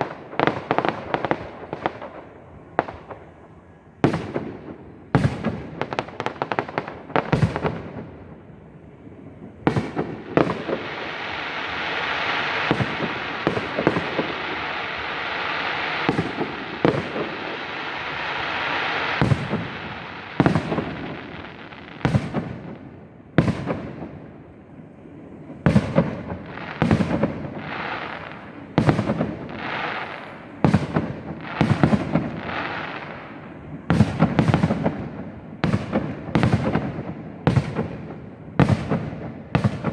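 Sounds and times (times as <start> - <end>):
fireworks crackling hiss: 0.0 - 39.9.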